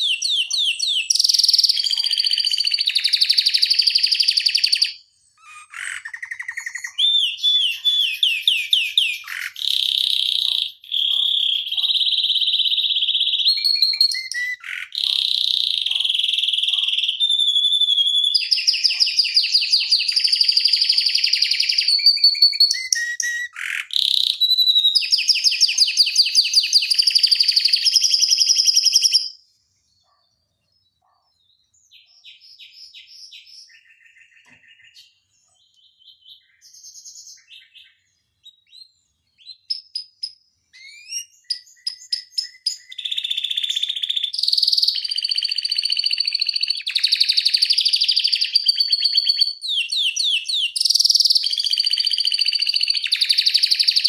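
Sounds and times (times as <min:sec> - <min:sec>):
canary singing trills: 0:00.0 - 0:29.4, 0:30.0 - 0:54.0.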